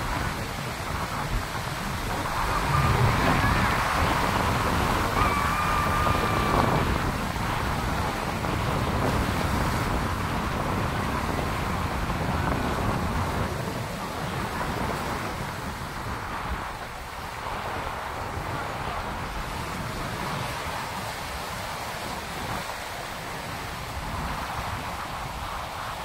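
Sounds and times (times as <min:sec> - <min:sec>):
surf breaking on rocks: 0:00.0 - 0:26.0
wind buffeting microphone: 0:00.0 - 0:26.0.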